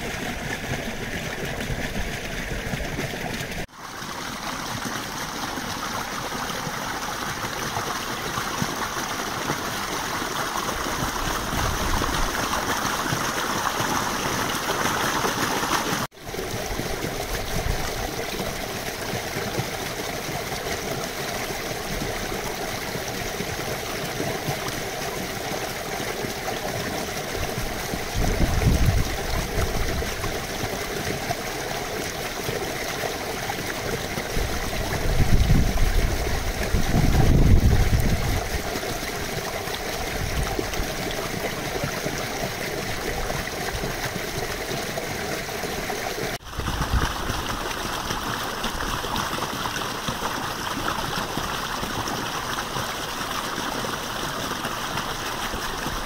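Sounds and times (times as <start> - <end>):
brook babbling: 0.0 - 56.0.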